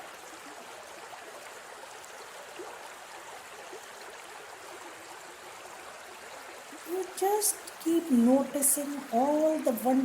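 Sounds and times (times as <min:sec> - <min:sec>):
stream rushing and bubbling: 0:00.0 - 0:10.0.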